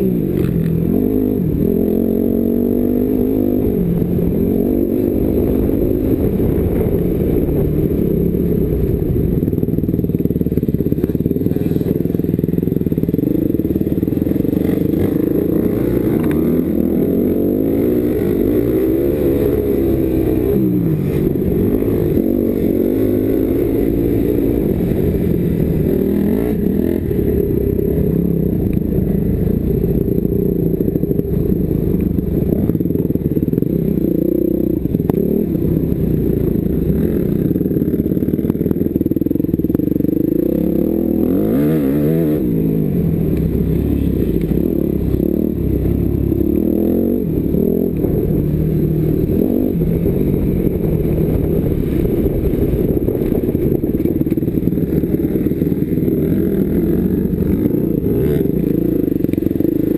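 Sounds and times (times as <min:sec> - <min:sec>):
low rumble: 0:00.0 - 0:59.9
motocross bike engine revving: 0:00.0 - 0:59.9.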